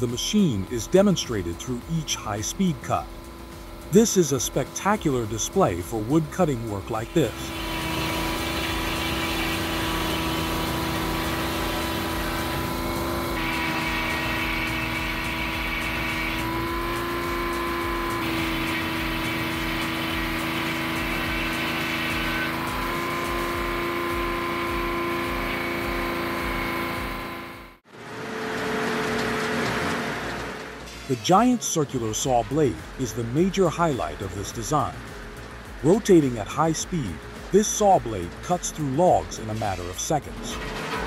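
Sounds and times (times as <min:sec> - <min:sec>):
circular saw blade whining: 0:00.0 - 0:41.0.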